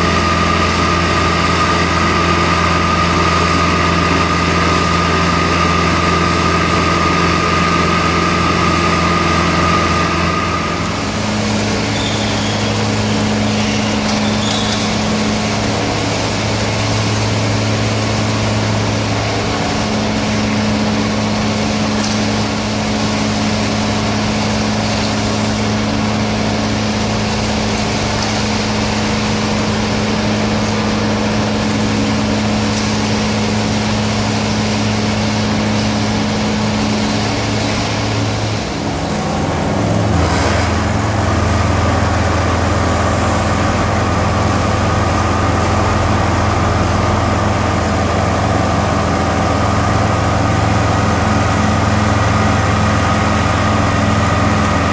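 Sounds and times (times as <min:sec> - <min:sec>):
deep engine drone: 0:00.0 - 0:54.9
spreader engine running: 0:00.0 - 0:54.9.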